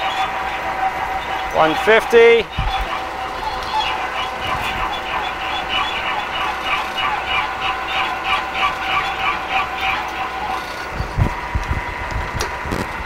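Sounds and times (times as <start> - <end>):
end mill scraping pulse: 0.0 - 13.0
motor and gear whine: 0.0 - 13.0.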